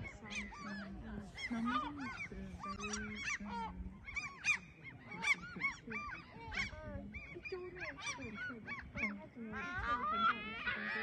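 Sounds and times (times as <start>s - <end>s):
waterbirds calling: 0.0s - 11.0s.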